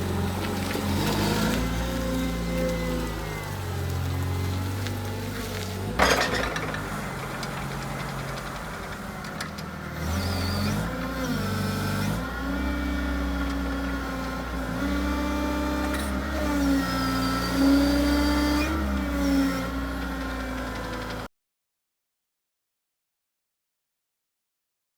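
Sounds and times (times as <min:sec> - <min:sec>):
engine whine: 0:00.0 - 0:21.3
forklift engine revving: 0:00.0 - 0:21.3.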